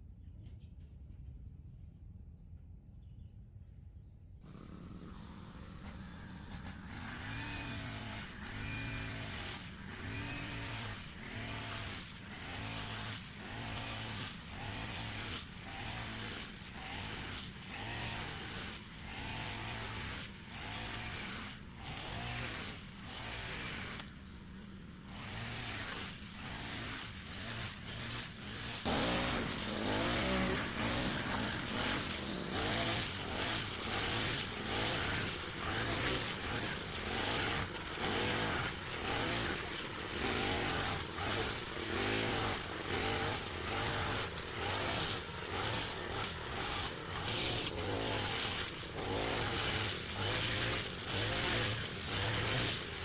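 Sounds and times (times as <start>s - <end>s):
motor running with pulsing sound: 4.4s - 53.0s.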